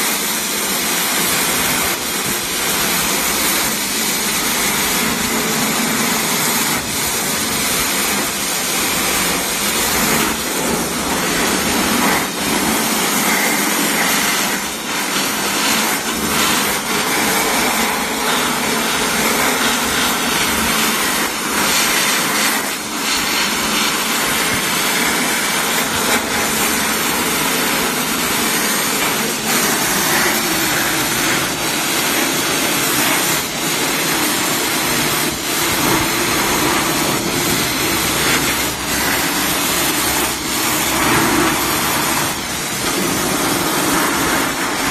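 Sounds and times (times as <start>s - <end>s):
abrasive blast nozzle hissing: 0.0s - 44.9s.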